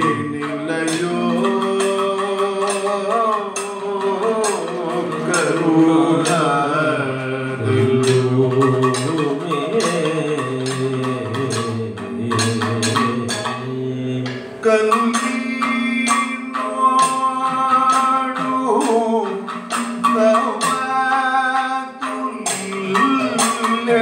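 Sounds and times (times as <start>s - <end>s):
drum strokes: 0.0s - 24.0s
male singers chanting: 0.0s - 24.0s.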